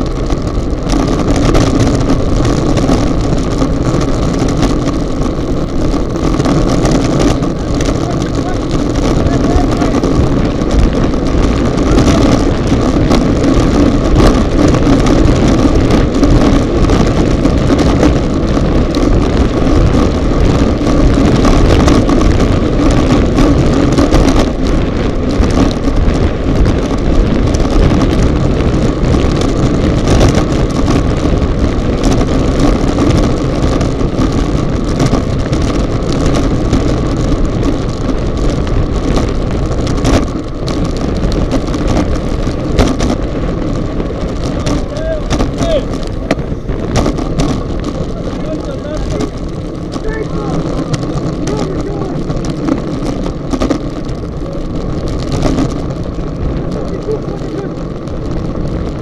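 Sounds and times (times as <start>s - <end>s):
tyre and road noise: 0.0s - 59.0s
wind rushing over microphone: 0.0s - 59.0s.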